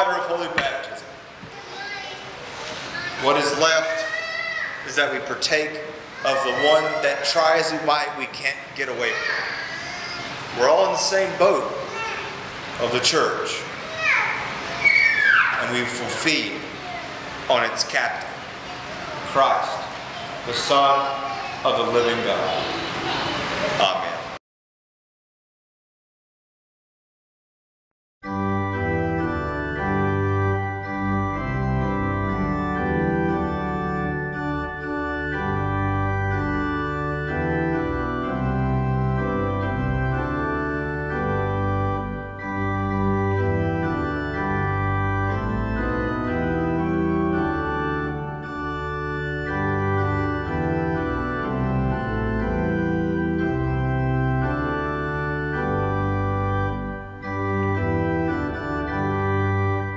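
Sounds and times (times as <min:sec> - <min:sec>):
organ playing hymn chords: 0:00.0 - 0:01.4, 0:02.9 - 0:04.2, 0:04.8 - 0:13.9, 0:14.5 - 0:18.7, 0:19.3 - 0:24.3, 0:28.2 - 0:59.9.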